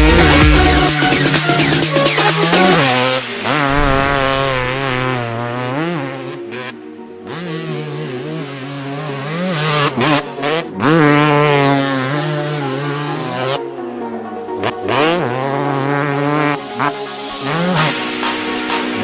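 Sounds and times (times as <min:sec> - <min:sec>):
dirt bike engine revving: 0:00.0 - 0:13.7, 0:14.6 - 0:19.0
music: 0:00.0 - 0:19.0.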